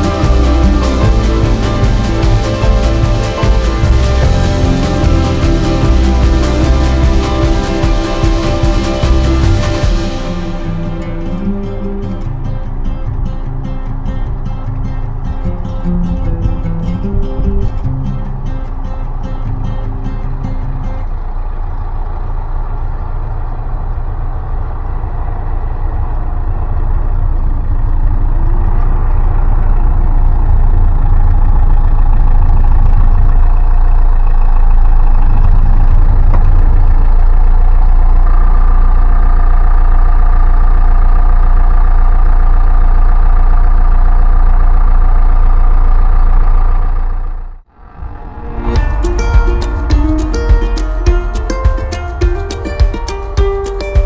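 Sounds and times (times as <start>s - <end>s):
high steady whine: 0.0s - 54.0s
tractor engine running: 0.0s - 54.0s.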